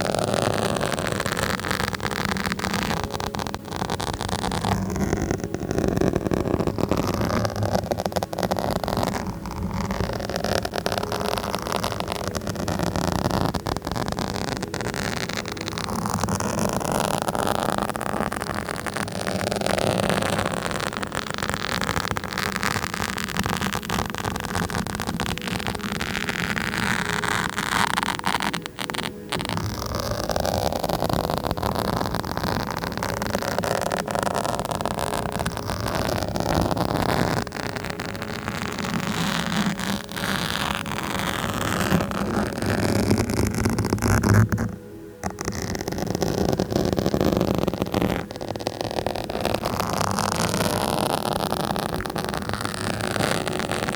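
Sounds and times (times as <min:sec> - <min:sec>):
scratching on microphone: 0:00.0 - 0:53.9.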